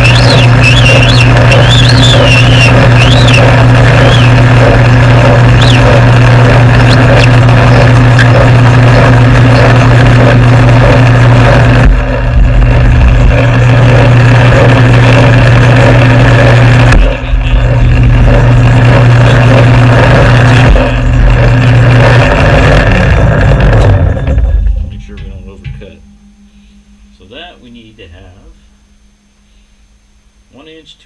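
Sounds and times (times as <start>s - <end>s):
lathe motor humming: 0.0s - 30.4s.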